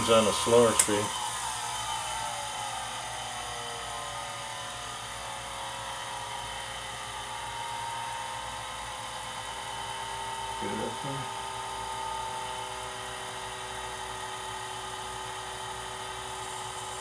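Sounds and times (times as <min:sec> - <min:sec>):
lathe motor whining: 0:00.0 - 0:17.0.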